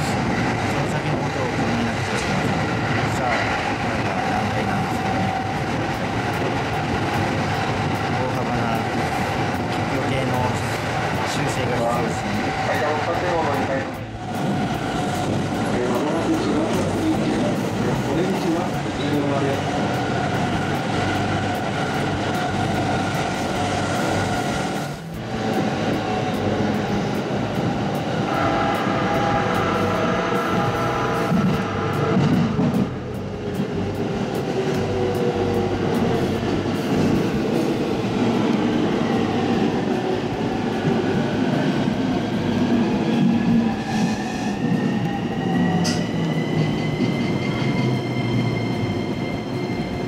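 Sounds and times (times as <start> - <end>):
train cabin running noise: 0.0 - 50.0.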